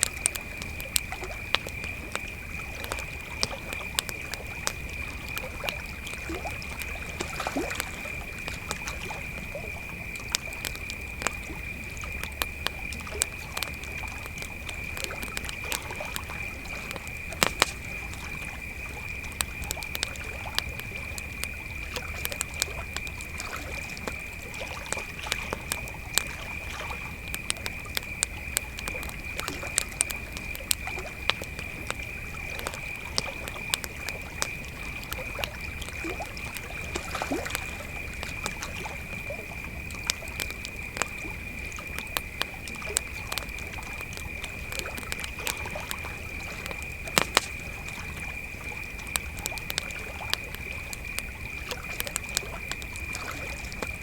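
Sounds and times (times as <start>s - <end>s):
campfire crackling and popping: 0.0s - 54.0s
crickets trilling: 0.0s - 54.0s.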